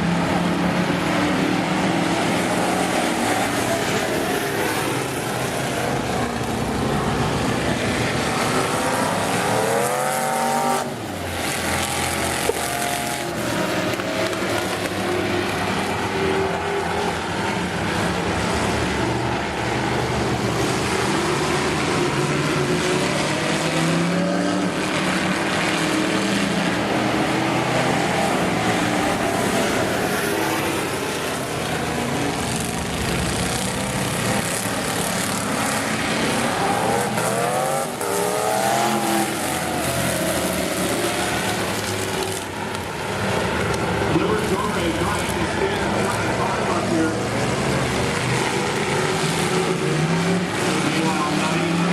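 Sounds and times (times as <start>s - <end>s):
race car engines: 0.0s - 51.9s.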